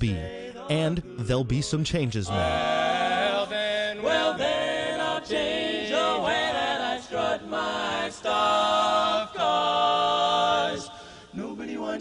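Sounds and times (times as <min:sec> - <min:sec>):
male quartet singing harmony: 0:00.0 - 0:12.0.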